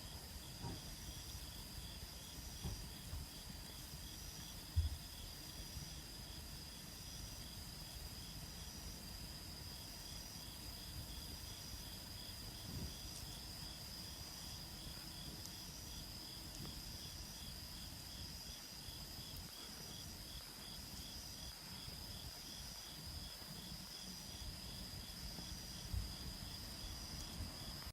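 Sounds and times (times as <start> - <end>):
insects trilling: 0.0 - 27.9
pulsing cricket chirps: 0.0 - 27.9.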